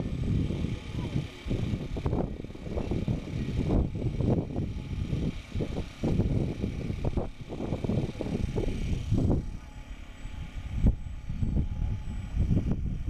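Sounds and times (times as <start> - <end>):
model airplane motor droning: 0.0 - 13.0
wind gusts on microphone: 0.0 - 13.0.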